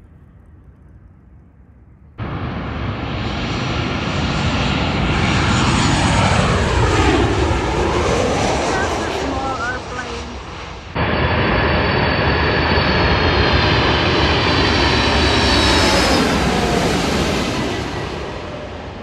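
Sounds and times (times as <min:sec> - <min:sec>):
jet engines rumbling overhead: 0:00.0 - 0:19.0.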